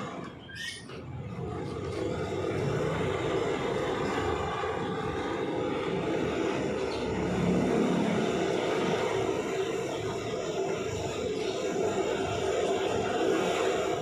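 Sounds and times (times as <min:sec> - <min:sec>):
mechanical motor drone: 0:00.0 - 0:14.0.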